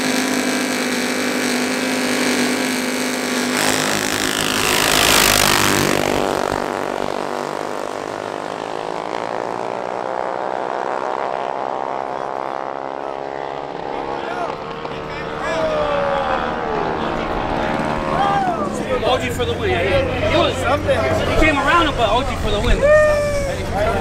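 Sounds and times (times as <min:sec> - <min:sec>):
mini bike engines revving: 0:00.0 - 0:24.0
bikes rushing past: 0:02.7 - 0:24.0.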